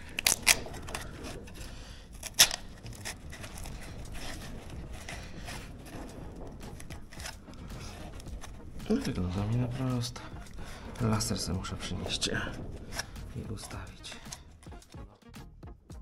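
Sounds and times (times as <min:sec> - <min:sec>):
light scraping: 0:00.0 - 0:14.9.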